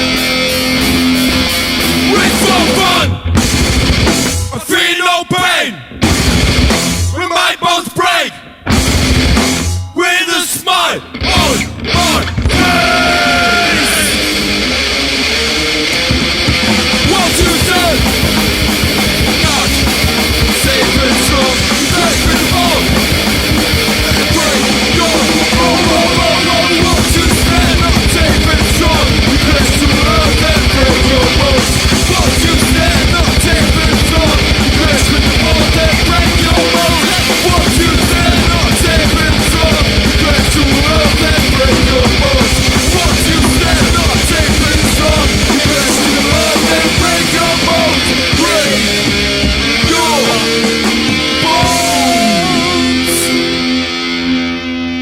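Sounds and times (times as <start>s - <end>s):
loud hardcore punk music: 0.0s - 55.0s.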